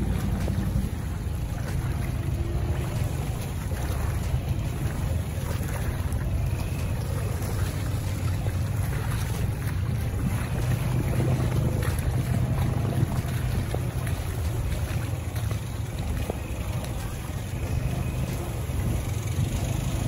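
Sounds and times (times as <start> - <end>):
atv engine running under load: 0.0 - 20.0
water churning: 0.0 - 20.0.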